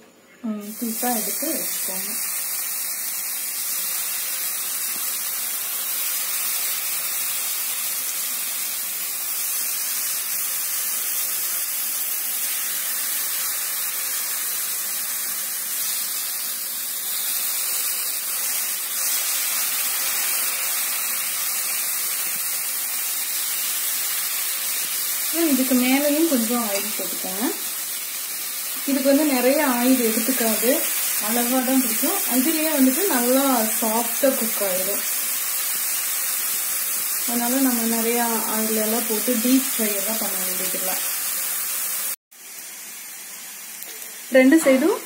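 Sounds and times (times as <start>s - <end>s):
eggplant slices sizzling in oil: 0.2s - 45.0s.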